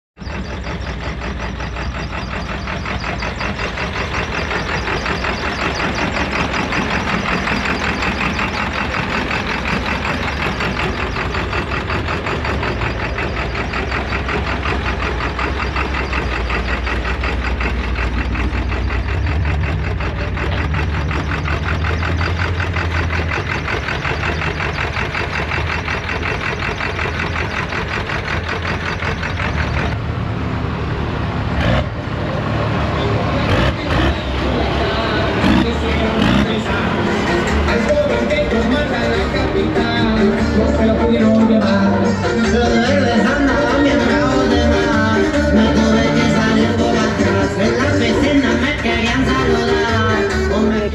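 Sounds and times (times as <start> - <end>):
truck engine running: 0.2 - 50.9.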